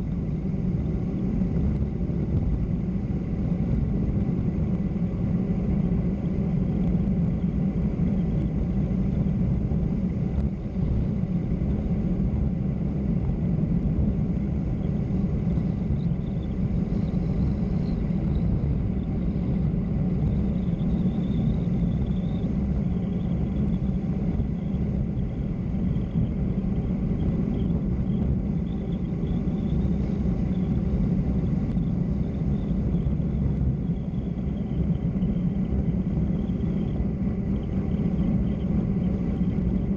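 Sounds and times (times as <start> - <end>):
wind rush and road noise: 0.0 - 39.9.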